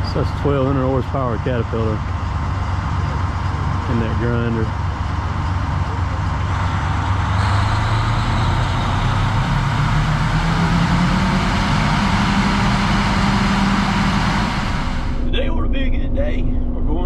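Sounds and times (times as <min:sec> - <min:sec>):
wood grinder diesel engine running: 0:00.0 - 0:15.3.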